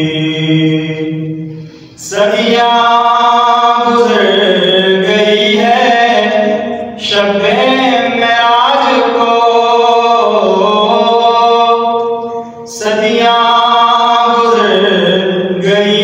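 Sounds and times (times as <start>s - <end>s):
man singing unaccompanied: 2.0s - 16.0s.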